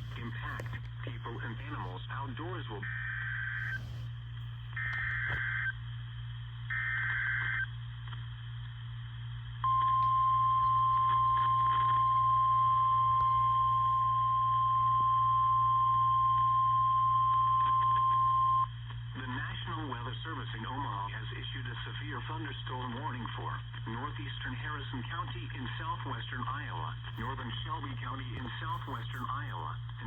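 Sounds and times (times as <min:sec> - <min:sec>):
low radio hum: 0:00.0 - 0:30.0.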